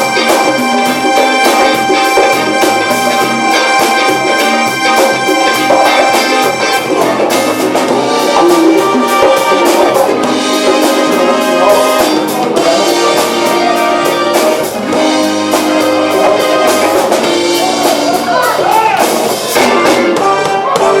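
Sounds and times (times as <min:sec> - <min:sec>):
drum kit beat: 0:00.0 - 0:21.0
horn section: 0:00.0 - 0:21.0.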